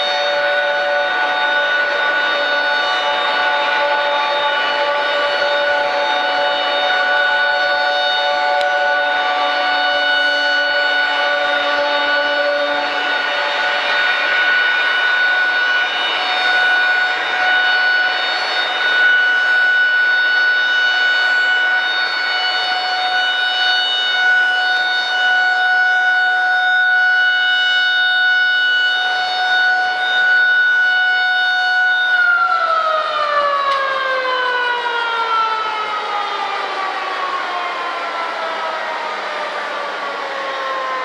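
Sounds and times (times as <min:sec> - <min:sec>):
siren high steady tone: 0:00.0 - 0:41.0.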